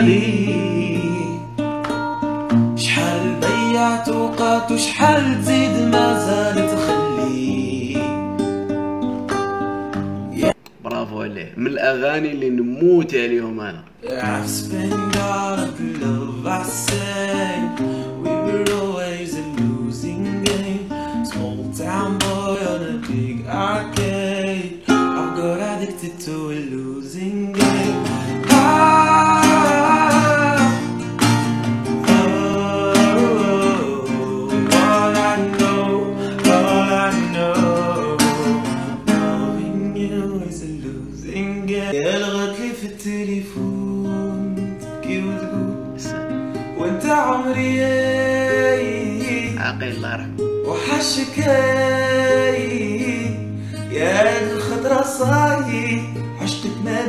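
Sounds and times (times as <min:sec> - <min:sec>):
young man singing: 0:00.0 - 0:01.6, 0:02.8 - 0:08.4, 0:10.3 - 0:10.6, 0:13.9 - 0:57.0
acoustic guitar strummed and plucked: 0:00.0 - 0:10.8, 0:13.8 - 0:57.0.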